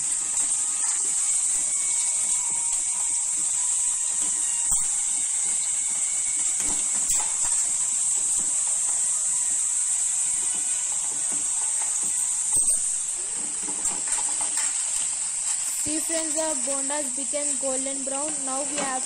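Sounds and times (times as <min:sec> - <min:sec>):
oil sizzling while deep-frying: 0:00.0 - 0:19.0.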